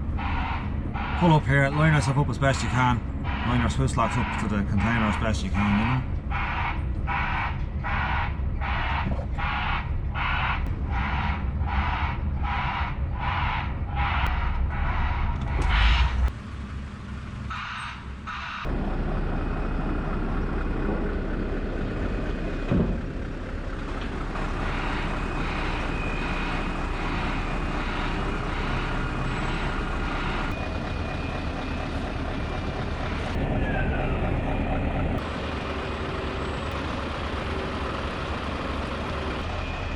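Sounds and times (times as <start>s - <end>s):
heavy truck engine running: 0.0s - 39.9s
machinery drone: 0.0s - 39.9s.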